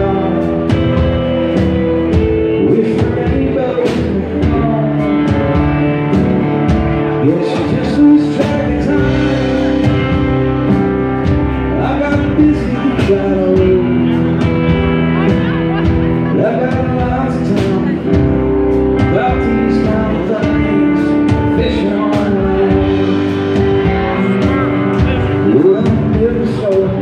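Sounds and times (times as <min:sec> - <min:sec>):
man singing: 0:00.0 - 0:27.0.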